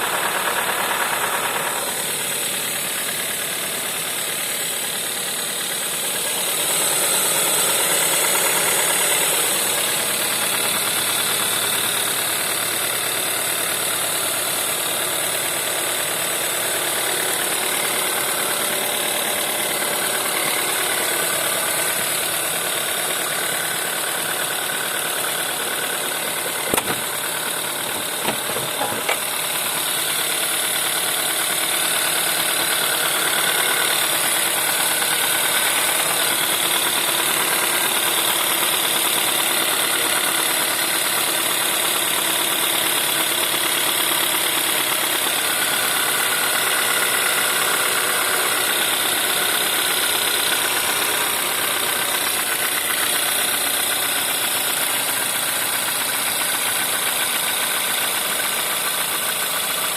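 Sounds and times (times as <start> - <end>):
petrol engine idling with knock: 0.0 - 59.9.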